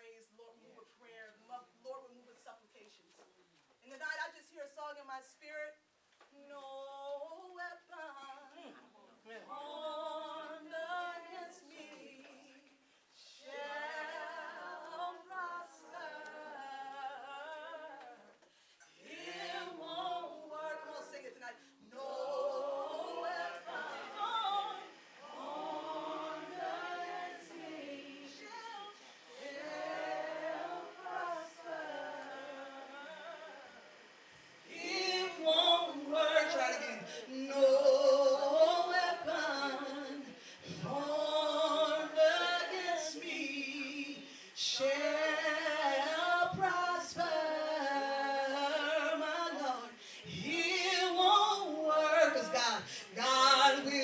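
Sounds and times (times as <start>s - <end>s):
woman singing gospel: 3.9s - 34.0s, 34.6s - 54.0s.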